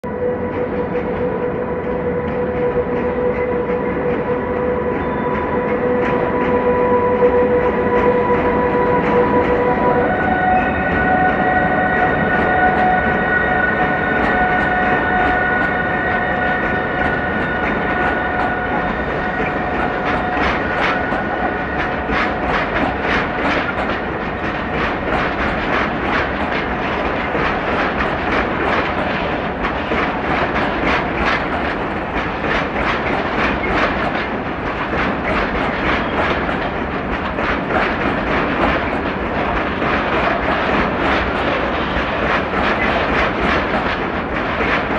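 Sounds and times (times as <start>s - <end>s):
electric locomotive whine: 0.0s - 44.9s.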